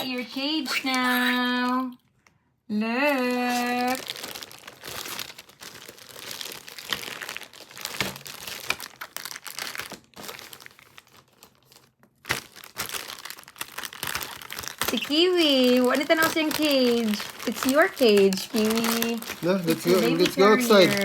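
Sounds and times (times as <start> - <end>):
packaging crinkling: 3.2 - 21.0.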